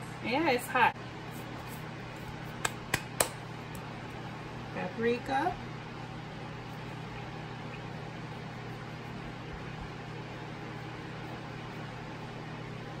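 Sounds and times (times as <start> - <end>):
appliance hum and hiss: 0.0 - 13.0.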